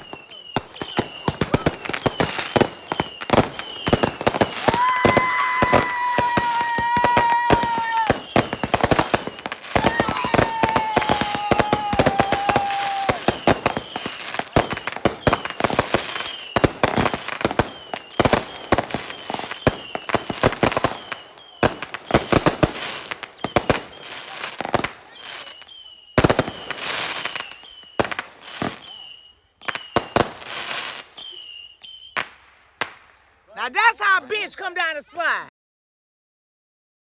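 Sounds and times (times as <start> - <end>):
short falling whistles: 0.0 - 21.8, 23.3 - 32.4
firework whistle: 0.0 - 34.2
fireworks bangs and crackles: 0.0 - 35.3.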